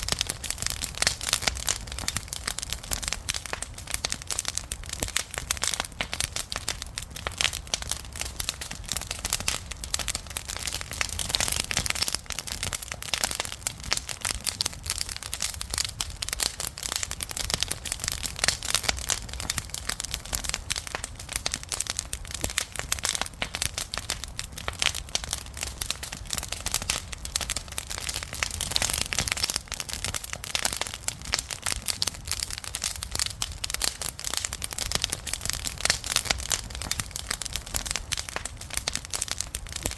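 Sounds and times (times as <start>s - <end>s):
campfire crackling and popping: 0.0s - 39.9s
low rumble of flame: 0.0s - 39.9s.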